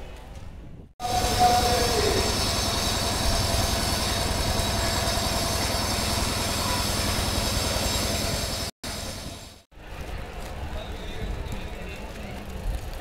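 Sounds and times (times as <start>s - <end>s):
locomotive rumbling: 1.0s - 13.0s.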